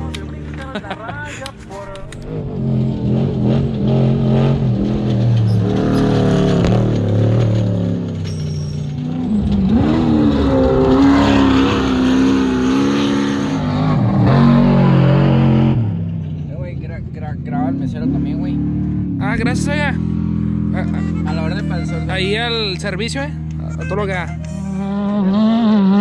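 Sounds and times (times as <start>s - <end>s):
race truck engine passing: 0.0s - 26.0s.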